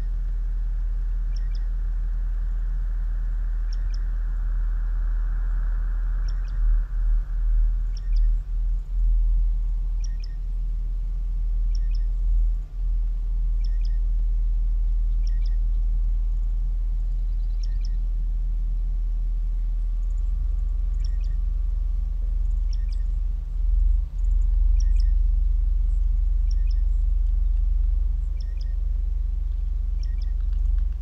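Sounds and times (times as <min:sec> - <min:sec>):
deep bass drone: 0:00.0 - 0:31.0.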